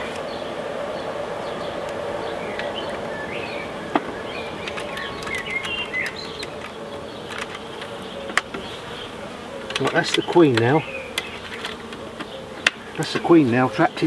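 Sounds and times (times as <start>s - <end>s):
bees humming: 0.0s - 14.0s
small birds chirping: 0.0s - 14.0s.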